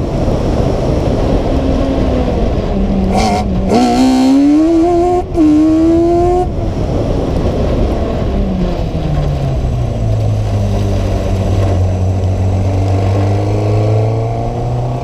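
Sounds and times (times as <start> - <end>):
car engine running: 2.2 - 14.6.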